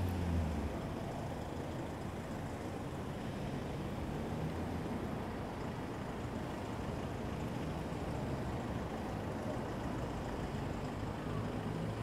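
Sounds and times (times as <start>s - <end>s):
cars driving slowly past: 0.0s - 12.0s.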